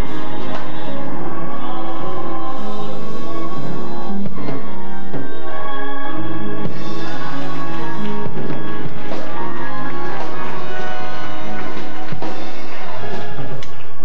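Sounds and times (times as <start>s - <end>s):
sustained instrumental chords: 0.0s - 13.7s.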